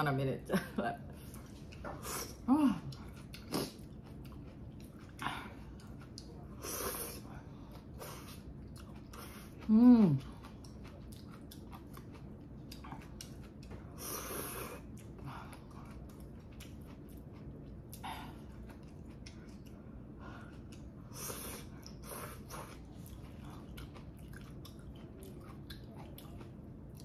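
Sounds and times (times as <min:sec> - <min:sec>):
chewing and mouth clicks: 0:02.8 - 0:06.6, 0:07.2 - 0:14.0, 0:14.6 - 0:27.0.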